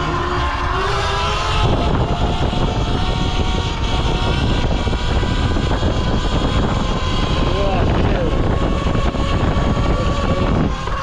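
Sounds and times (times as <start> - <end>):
electric dirt bike motor whining: 0.0 - 11.0
wind rumbling on microphone: 0.0 - 11.0.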